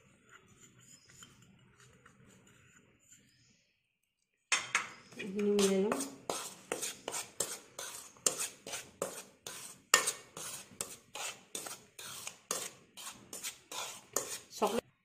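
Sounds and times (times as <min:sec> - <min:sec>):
metal spoon scraping bowl: 0:00.0 - 0:03.2, 0:04.6 - 0:14.8.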